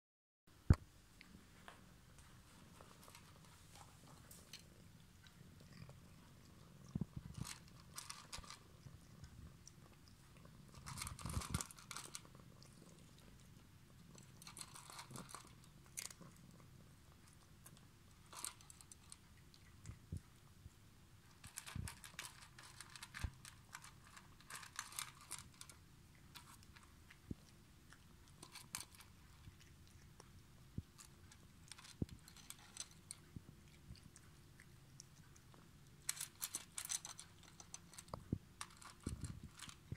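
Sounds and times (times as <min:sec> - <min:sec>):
cat crunching dry kibble: 0:02.3 - 0:20.6, 0:21.2 - 0:39.9.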